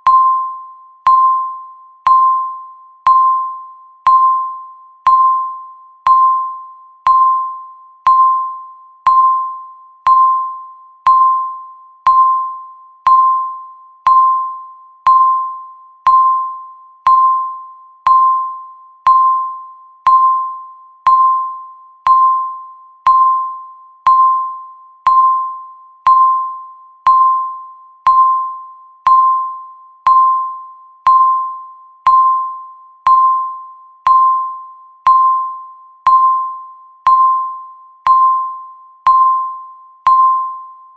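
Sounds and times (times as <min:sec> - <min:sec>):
countdown timer beeping: 0:00.0 - 0:40.8.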